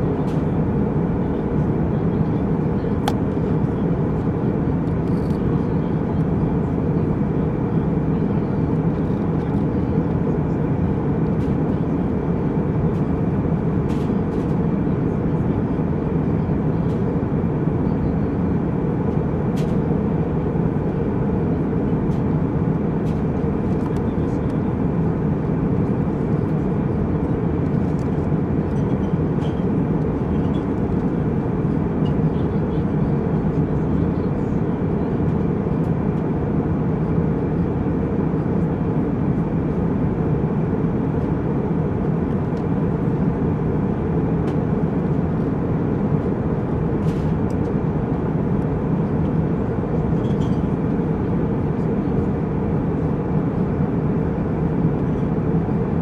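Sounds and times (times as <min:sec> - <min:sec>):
jet cabin engine rumble: 0:00.0 - 0:56.0.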